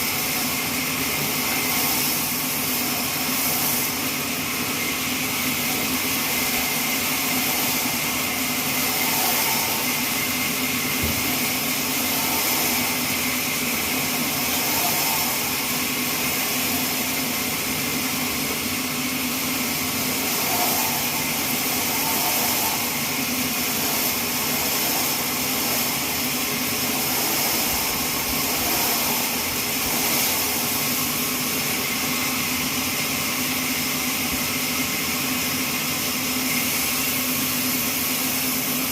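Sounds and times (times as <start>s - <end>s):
bandsaw mill sawing log: 0.0s - 38.9s.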